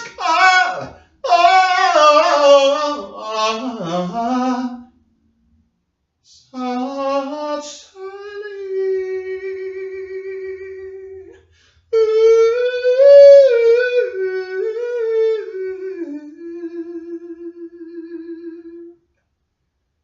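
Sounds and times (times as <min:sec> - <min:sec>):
high voice singing wordless melody: 0:00.0 - 0:04.9, 0:06.3 - 0:11.4, 0:12.0 - 0:18.9.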